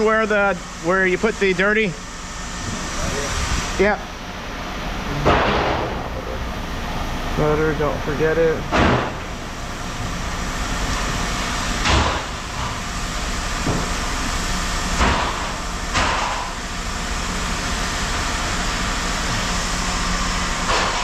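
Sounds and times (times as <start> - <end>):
engine hum: 0.0 - 21.0.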